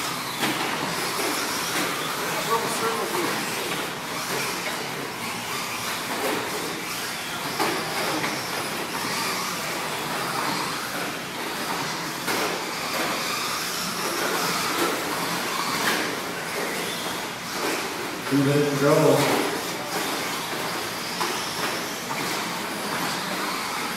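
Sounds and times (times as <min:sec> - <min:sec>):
toy truck motors whining: 0:00.0 - 0:23.9.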